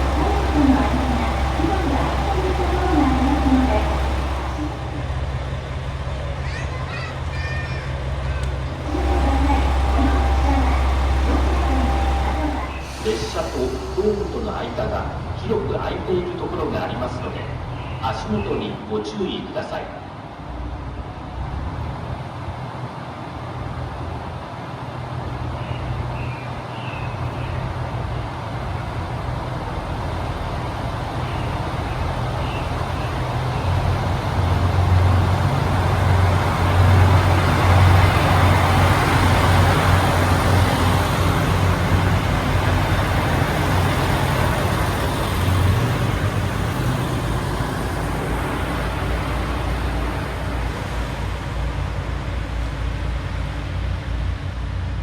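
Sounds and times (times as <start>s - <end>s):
wheel and rail noise: 0.0s - 18.0s, 20.0s - 55.0s
train running: 0.0s - 55.0s.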